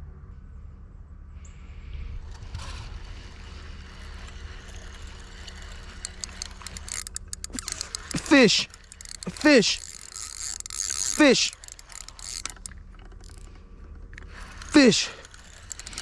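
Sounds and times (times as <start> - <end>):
fishing reel gears whirring: 1.8 - 16.0
sharp reel clicks: 2.2 - 16.0.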